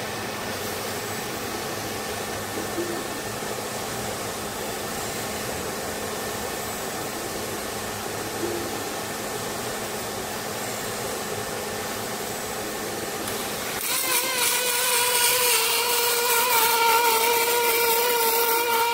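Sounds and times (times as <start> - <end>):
machine hum and hiss: 0.0 - 18.9.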